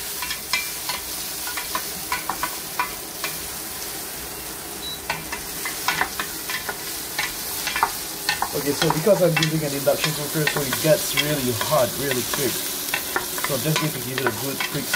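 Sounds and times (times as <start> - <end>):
food sizzling in hot oil: 0.0 - 14.9.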